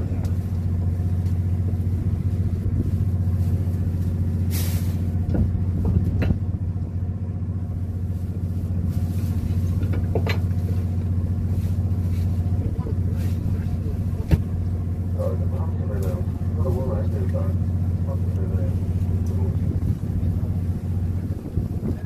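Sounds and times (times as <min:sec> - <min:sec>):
boat machinery droning: 0:00.0 - 0:22.0.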